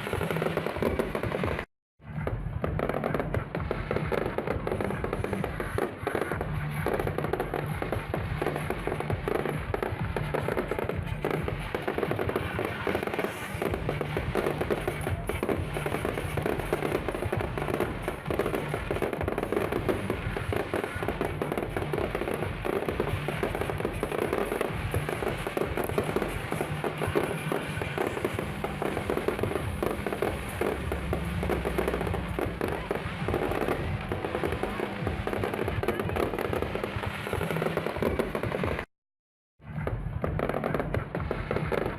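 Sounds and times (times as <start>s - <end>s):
music playing: 0.0s - 38.8s
fireworks crackling and popping: 0.0s - 38.9s, 39.6s - 41.9s.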